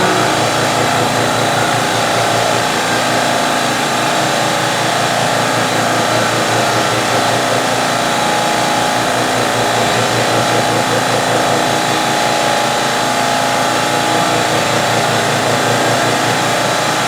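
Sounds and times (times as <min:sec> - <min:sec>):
air compressor running: 0:00.0 - 0:17.0
mill cutting whine: 0:00.0 - 0:17.0.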